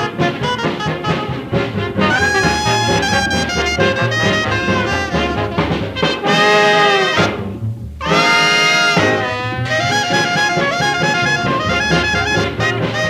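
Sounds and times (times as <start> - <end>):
hot jazz band playing: 0.0 - 13.0
trumpet and trombone: 0.0 - 13.0.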